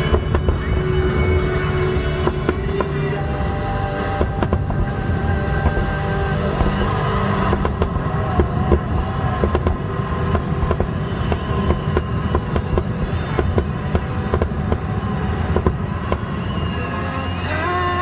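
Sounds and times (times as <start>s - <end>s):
fireworks bangs and crackles: 0.0s - 17.4s
low rumble: 0.0s - 17.6s.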